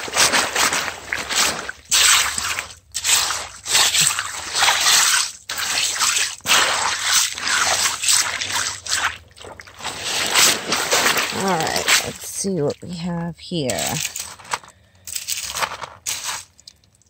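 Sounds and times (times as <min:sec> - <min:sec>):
wet gravel stirred by hand: 0:00.0 - 0:12.7, 0:13.6 - 0:16.8
water sloshing through mesh screen: 0:00.0 - 0:17.0.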